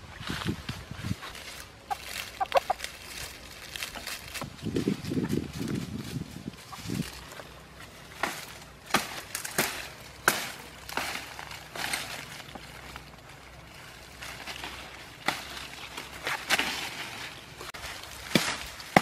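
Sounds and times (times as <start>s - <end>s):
dry leaves crackling: 0.0s - 19.0s
dry twigs snapping: 1.2s - 19.0s.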